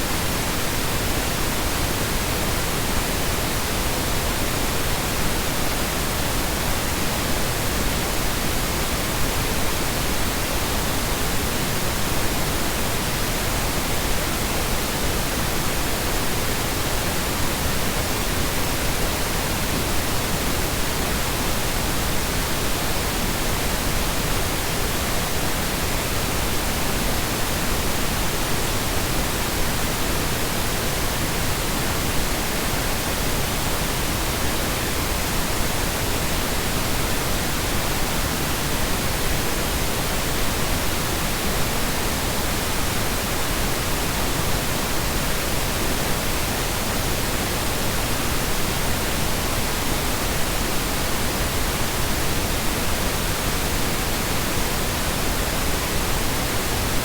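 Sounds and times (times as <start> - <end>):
generated noise hiss: 0.0 - 57.0.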